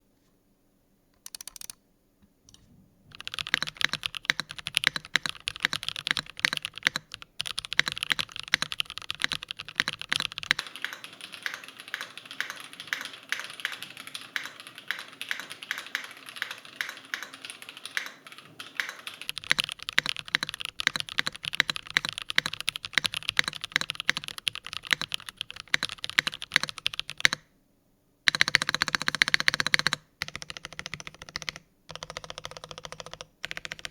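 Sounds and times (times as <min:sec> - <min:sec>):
fast typing on mechanical keyboard: 0:01.2 - 0:01.8, 0:03.1 - 0:27.4, 0:28.3 - 0:33.9.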